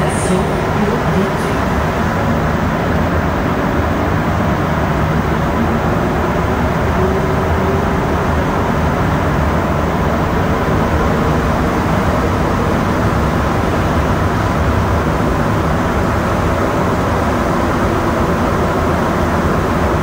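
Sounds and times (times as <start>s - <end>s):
subway train running: 0.0s - 20.0s.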